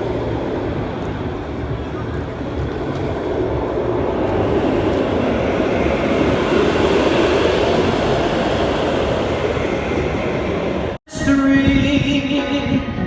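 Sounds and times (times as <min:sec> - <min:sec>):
roller coaster wheels rumbling: 0:00.0 - 0:11.0.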